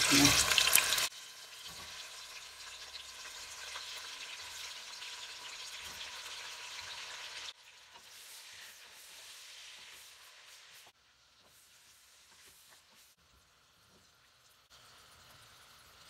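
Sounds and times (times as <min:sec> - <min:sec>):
beef sizzling in hot fat: 0:00.0 - 0:16.0.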